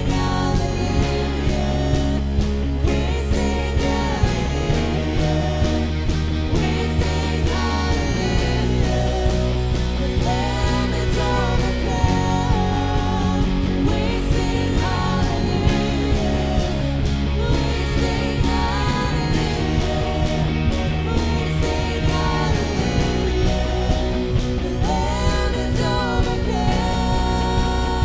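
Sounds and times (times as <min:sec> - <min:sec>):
band playing slow song: 0:00.0 - 0:28.0
woman singing: 0:00.0 - 0:28.0.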